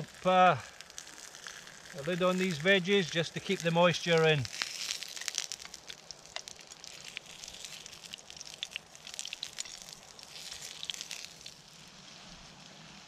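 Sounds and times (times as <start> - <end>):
coals crackling and popping: 0.0 - 13.0
food sizzling: 0.0 - 13.0.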